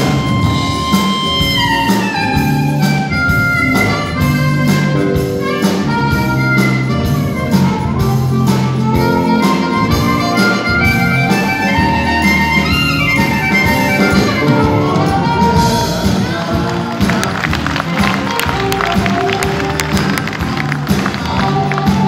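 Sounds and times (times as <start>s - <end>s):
drum kit: 0.0s - 22.0s
electric bass: 0.0s - 22.0s
electric guitar lead melody: 0.0s - 22.0s.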